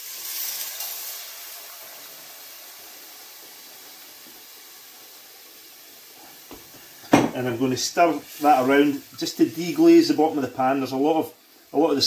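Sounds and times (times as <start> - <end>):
stock hissing and sizzling in pot: 0.0 - 12.0.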